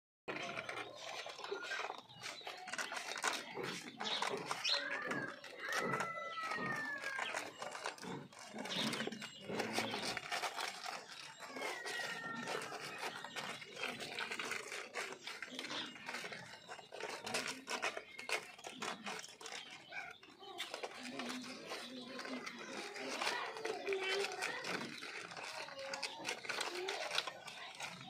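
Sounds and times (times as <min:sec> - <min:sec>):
puppies suckling wet clicks: 0:00.3 - 0:28.0.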